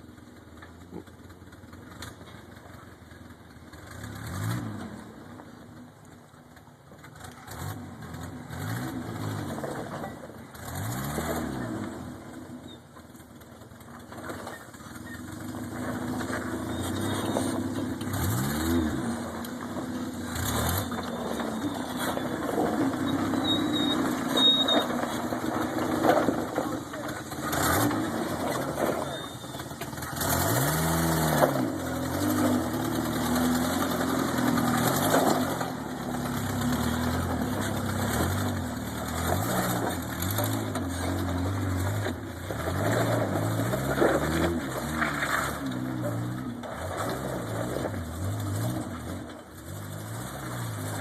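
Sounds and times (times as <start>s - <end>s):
vehicle engine revving: 3.7s - 5.2s, 7.1s - 12.6s, 14.2s - 51.0s.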